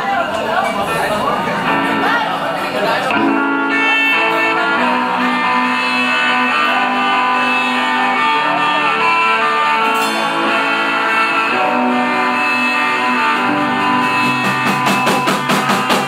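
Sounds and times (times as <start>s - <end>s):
electric guitars: 1.1s - 16.0s
rock band playing live: 1.1s - 16.0s.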